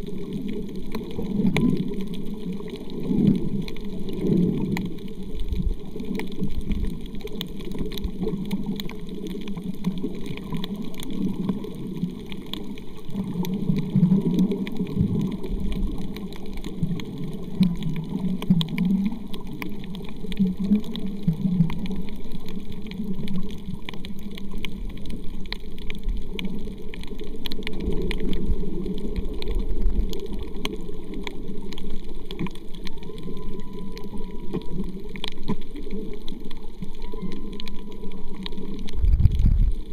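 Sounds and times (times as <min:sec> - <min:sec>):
crackle of faint clicks: 0:00.0 - 0:39.9
underwater water rushing: 0:00.0 - 0:39.9.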